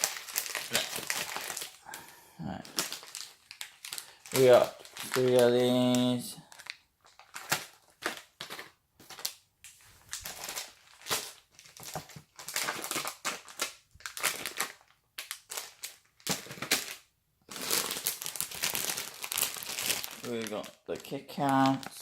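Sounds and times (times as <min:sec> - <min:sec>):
plastic wrappers crinkling: 0:00.0 - 0:22.0.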